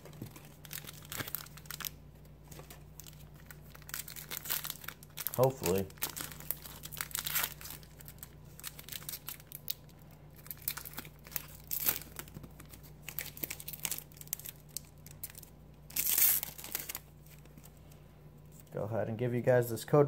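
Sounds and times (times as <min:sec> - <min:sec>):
foil wrapper crinkling and tearing: 0:00.0 - 0:17.7.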